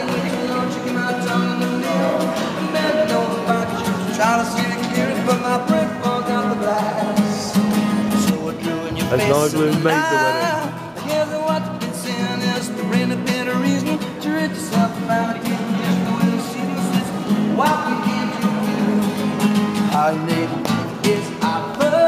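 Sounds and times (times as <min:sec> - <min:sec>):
acoustic guitar strumming: 0:00.0 - 0:22.0
man singing: 0:00.0 - 0:22.0.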